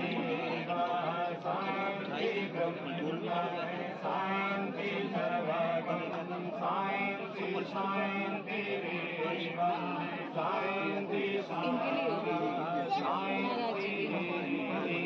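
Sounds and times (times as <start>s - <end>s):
man chanting mantras: 0.0s - 15.0s.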